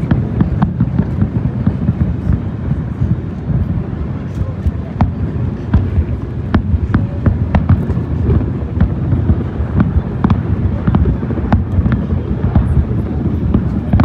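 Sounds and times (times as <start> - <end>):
fireworks cracking: 0.0 - 14.0
low rumble of booms: 0.0 - 14.0.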